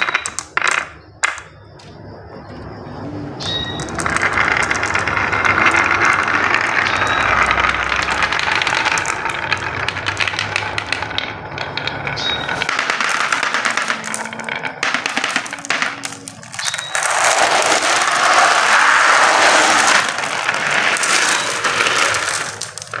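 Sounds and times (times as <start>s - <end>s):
marbles rolling down wooden track: 0.0s - 2.0s, 3.5s - 23.0s
marbles rattling in plastic tray: 3.8s - 23.0s.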